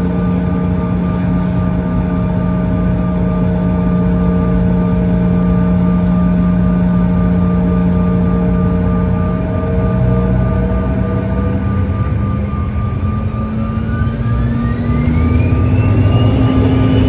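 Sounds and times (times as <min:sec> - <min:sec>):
jet engines humming and whining: 0:00.0 - 0:17.0.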